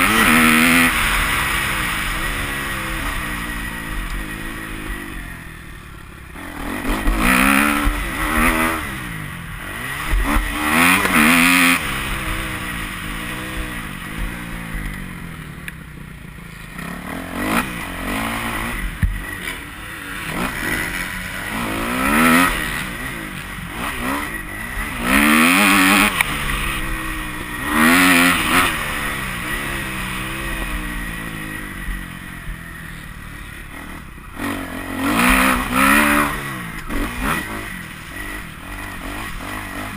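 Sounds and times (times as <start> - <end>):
motocross bike engine revving: 0.0 - 15.5, 16.6 - 39.9.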